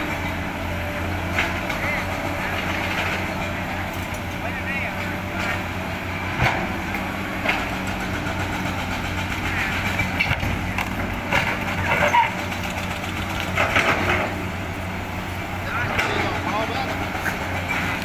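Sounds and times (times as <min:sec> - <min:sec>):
excavator diesel engine: 0:00.0 - 0:18.0.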